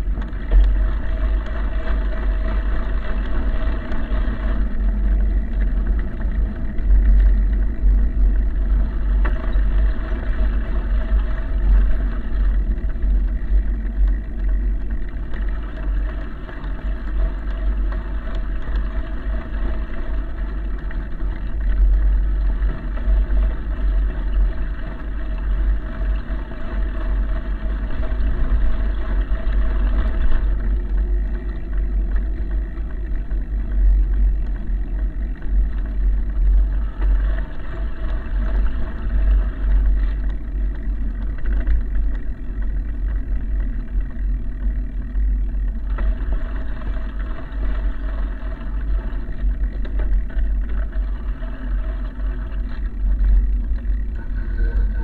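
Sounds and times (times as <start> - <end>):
faint running hum: 0.0 - 55.0.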